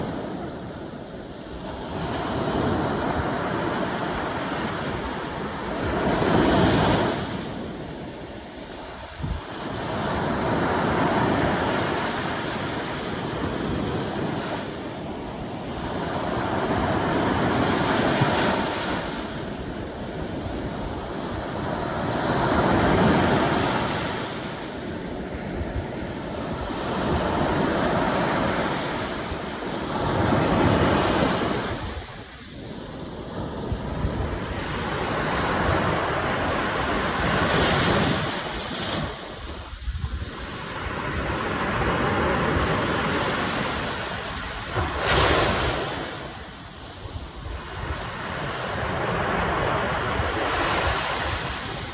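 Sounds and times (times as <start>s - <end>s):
sea waves breaking on shore: 0.0s - 51.9s.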